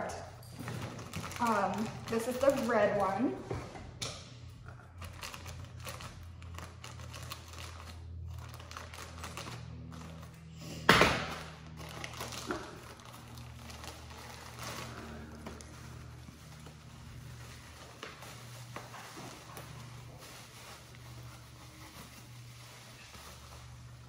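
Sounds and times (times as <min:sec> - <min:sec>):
plastic bag crinkling: 0:00.0 - 0:03.4, 0:04.9 - 0:10.5, 0:11.2 - 0:24.0
loud sharp plastic crackle: 0:00.6 - 0:03.2, 0:05.0 - 0:24.0.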